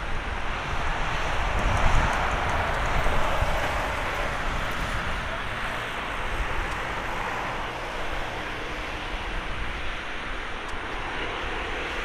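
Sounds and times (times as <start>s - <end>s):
jet engines taxiing: 0.0s - 12.0s
wind rumble on microphone: 0.0s - 12.0s.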